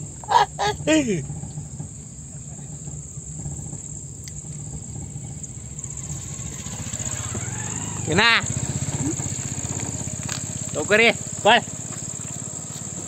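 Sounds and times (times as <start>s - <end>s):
car engine running: 0.0s - 13.0s
crickets chirping: 0.0s - 13.0s.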